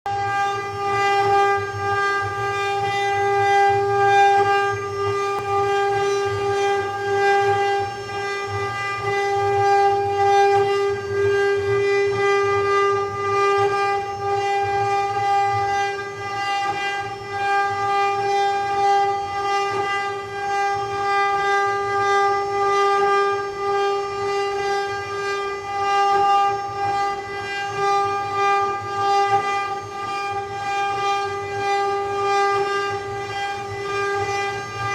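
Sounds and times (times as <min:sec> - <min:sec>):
router spindle whine: 0:00.1 - 0:34.9.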